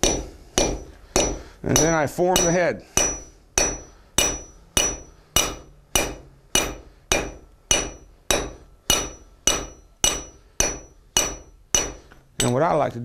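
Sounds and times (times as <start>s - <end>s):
hammer striking hot metal: 0.0s - 12.8s.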